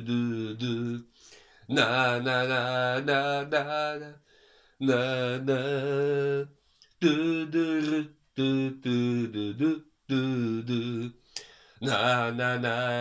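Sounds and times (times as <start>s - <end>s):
man singing unaccompanied: 0.0s - 13.0s.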